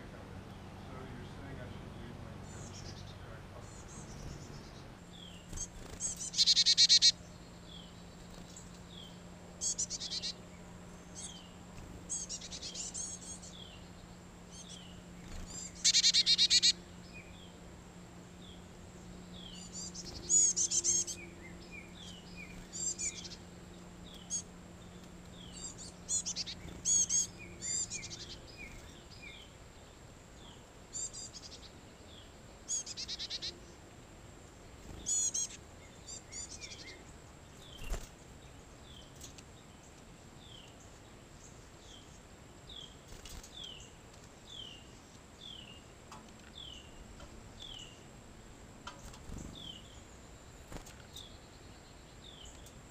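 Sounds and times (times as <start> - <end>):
songbirds chirping and whistling: 0.0 - 52.9.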